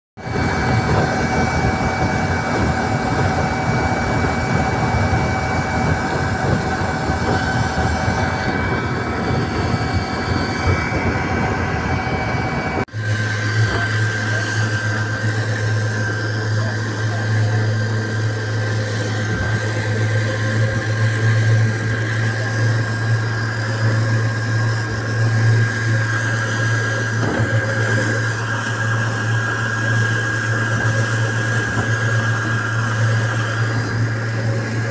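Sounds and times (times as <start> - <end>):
speedboat engine running: 0.2 - 34.9
strong low hum: 0.2 - 34.9
water against hull: 0.2 - 34.9.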